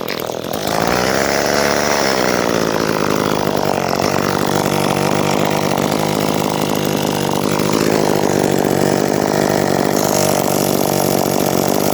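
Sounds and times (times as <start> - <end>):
chainsaw running at high speed: 0.0 - 11.9.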